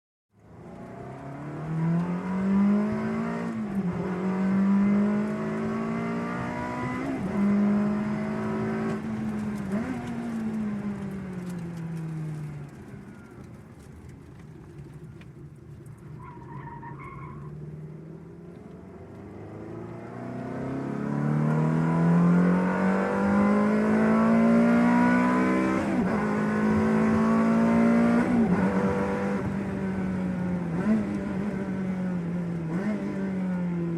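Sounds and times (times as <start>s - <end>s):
car engine accelerating through gears: 0.4s - 33.9s.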